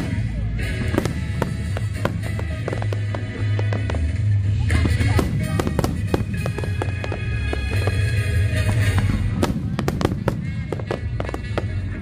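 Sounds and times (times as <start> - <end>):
fireworks bursting and crackling: 0.0 - 12.0
music: 0.0 - 12.0.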